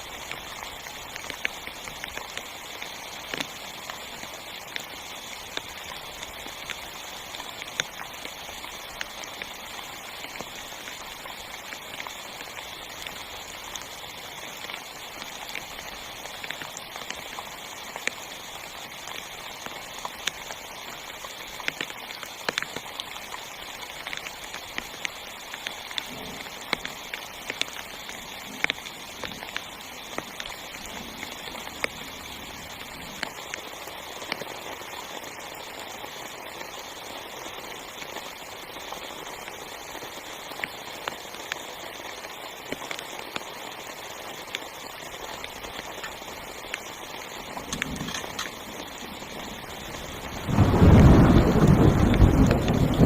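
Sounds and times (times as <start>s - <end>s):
heavy rain on a tent: 0.0s - 53.0s.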